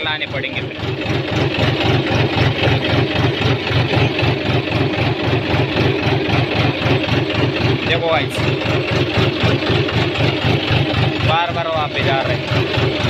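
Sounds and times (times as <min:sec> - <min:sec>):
tractor diesel engine chugging: 0:00.0 - 0:13.0.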